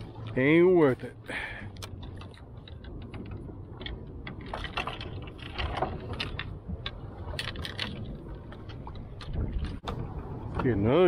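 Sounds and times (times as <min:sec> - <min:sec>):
fishing gear clicking and rattling: 0:00.0 - 0:10.1
steady low rumble: 0:00.0 - 0:11.0.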